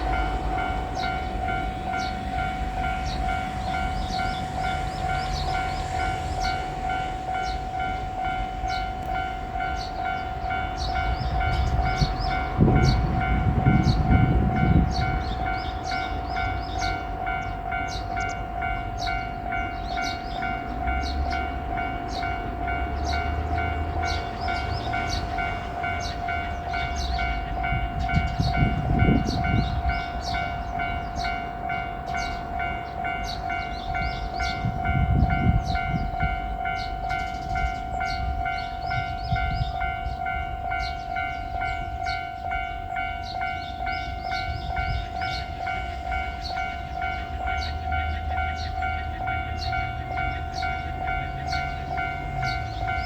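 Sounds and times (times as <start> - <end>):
level crossing warning bell: 0.0 - 53.0
railcar rumbling past: 0.0 - 53.0.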